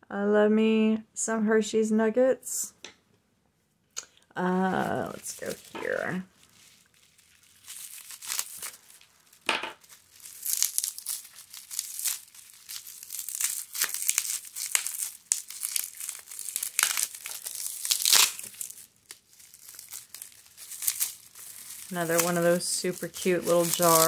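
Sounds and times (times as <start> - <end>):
bubble wrap crinkling: 4.4 - 24.0.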